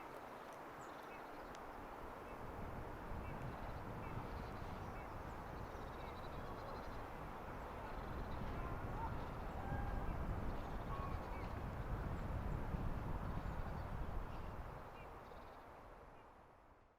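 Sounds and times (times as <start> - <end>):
wind rumbling on microphone: 1.2 - 16.2.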